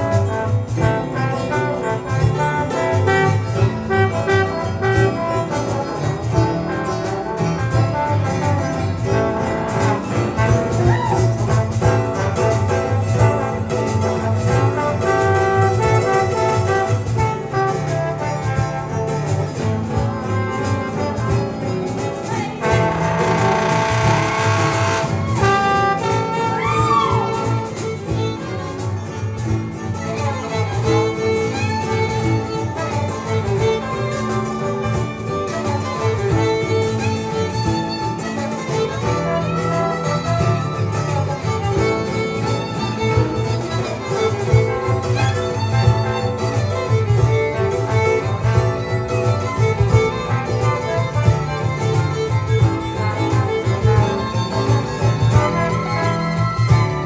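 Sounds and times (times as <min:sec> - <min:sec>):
blues ensemble playing: 0:00.0 - 0:57.0
violin lead: 0:00.0 - 0:57.0.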